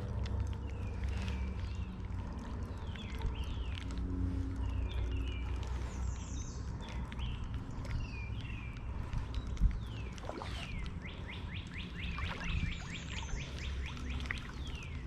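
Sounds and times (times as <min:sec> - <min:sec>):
creek water flowing: 0:00.0 - 0:15.0
small splashes: 0:00.0 - 0:15.0
songbirds calling: 0:00.0 - 0:15.0.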